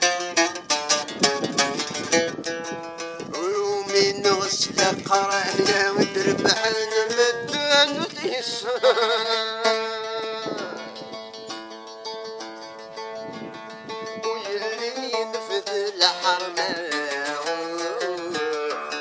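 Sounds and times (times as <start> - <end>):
oud melody: 0.0 - 19.0.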